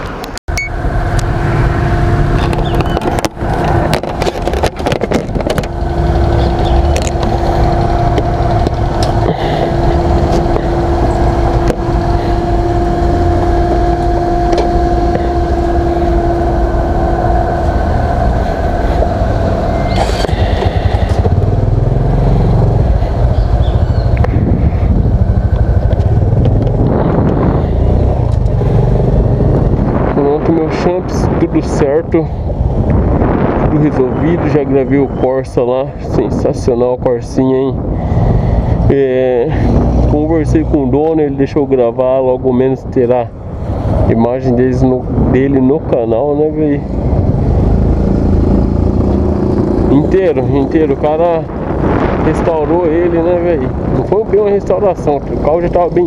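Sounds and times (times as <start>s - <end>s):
wind rumble on microphone: 0.0s - 56.0s
motorcycle engine running: 0.5s - 56.0s.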